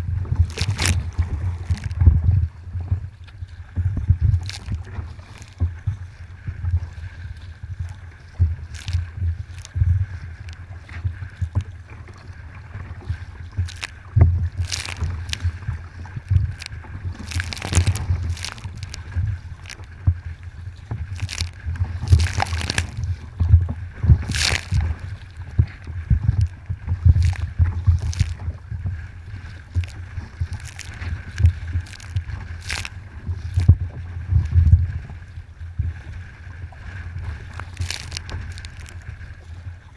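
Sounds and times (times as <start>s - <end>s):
paddle splashing: 0.0s - 39.9s
water sloshing against hull: 0.0s - 39.9s.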